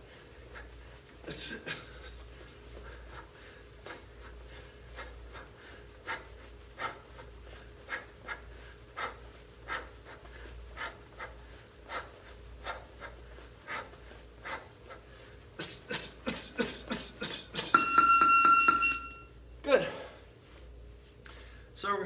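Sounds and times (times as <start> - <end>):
person panting: 0.0 - 17.7.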